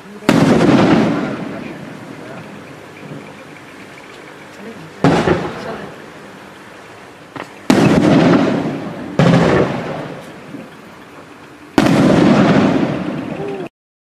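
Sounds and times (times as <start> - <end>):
firework shells booming: 0.0 - 13.6.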